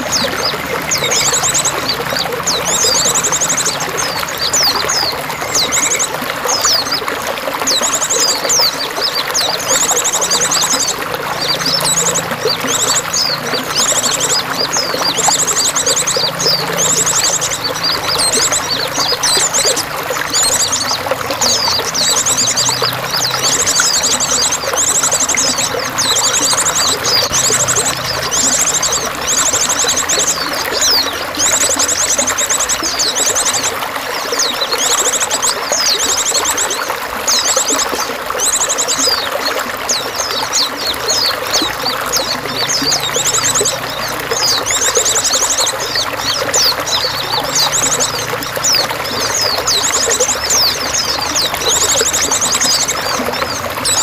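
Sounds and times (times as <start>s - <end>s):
songbirds trilling and chirping: 0.0s - 54.0s
water pouring and trickling: 0.0s - 54.0s.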